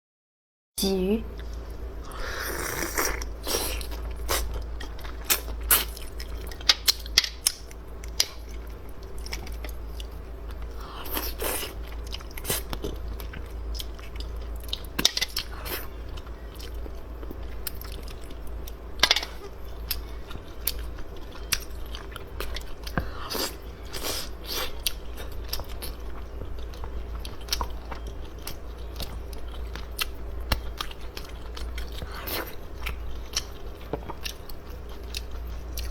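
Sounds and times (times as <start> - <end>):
steady low hum: 0.8 - 35.9
person chewing crunchy food: 1.4 - 35.9.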